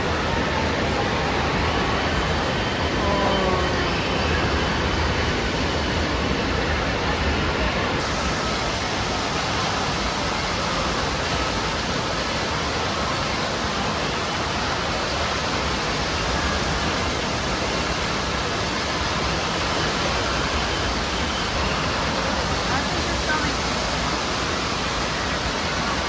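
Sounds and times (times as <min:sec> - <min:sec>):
falling and splashing water: 0:00.0 - 0:26.0.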